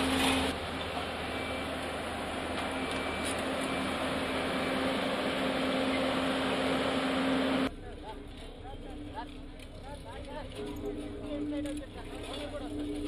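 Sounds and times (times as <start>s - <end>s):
road roller diesel engine running: 0.0s - 13.0s.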